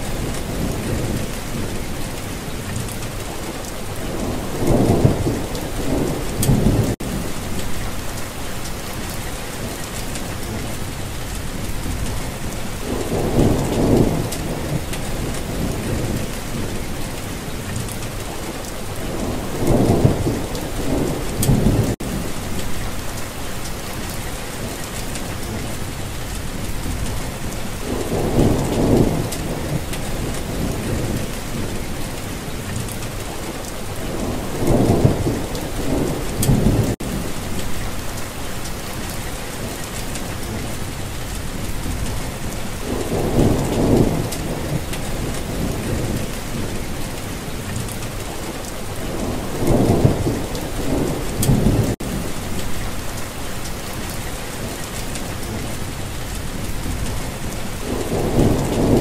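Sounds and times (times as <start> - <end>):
low thunder rumbling: 0.0 - 59.0
steady rain hissing: 0.0 - 59.0.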